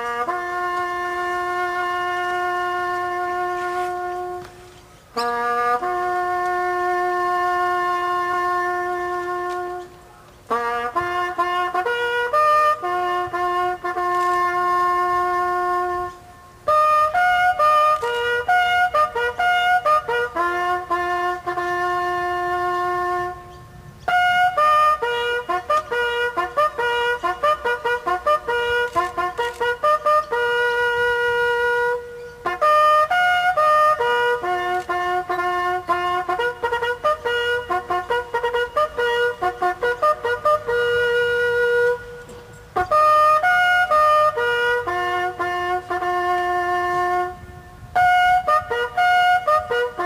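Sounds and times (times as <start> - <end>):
solo bugle call: 0.0 - 50.0.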